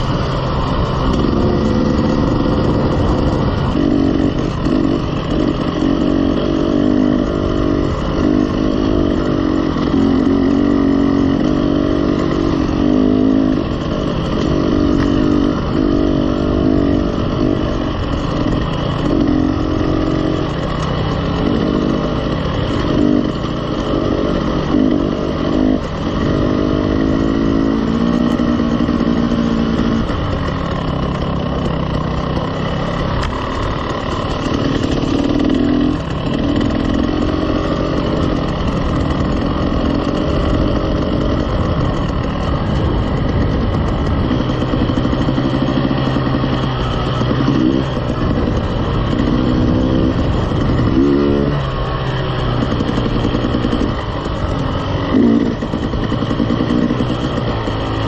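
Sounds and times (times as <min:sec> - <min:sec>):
wind noise: 0:00.0 - 0:23.5, 0:32.6 - 0:58.0
dirt bike engine revving: 0:00.0 - 0:58.0.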